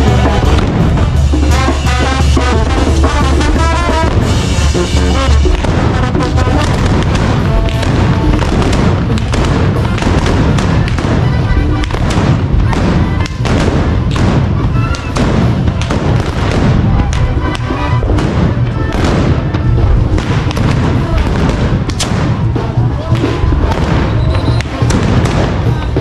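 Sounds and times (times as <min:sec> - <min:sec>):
brass band music: 0:00.0 - 0:26.0
deep drum beat: 0:00.0 - 0:26.0
sharp bangs: 0:00.0 - 0:26.0.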